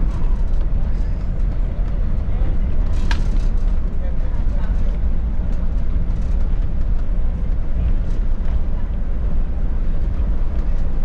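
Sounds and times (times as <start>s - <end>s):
coach engine low rumble: 0.0s - 11.0s.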